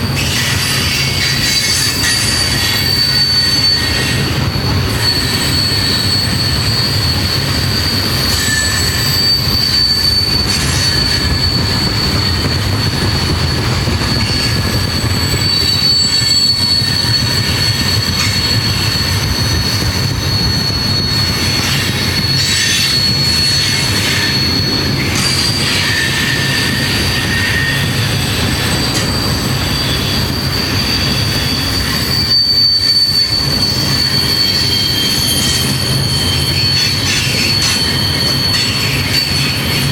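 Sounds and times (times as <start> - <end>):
freight train rumbling: 0.0 - 39.9
train wheels squealing: 0.0 - 39.9.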